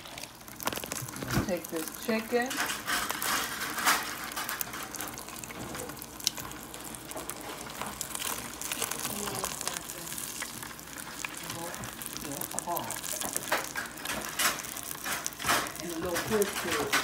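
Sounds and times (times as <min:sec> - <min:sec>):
chicken deep-frying in hot oil: 0:00.0 - 0:17.0.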